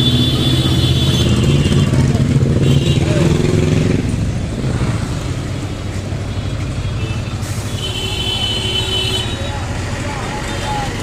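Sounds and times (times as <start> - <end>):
rumble of passing traffic: 0.0 - 11.0.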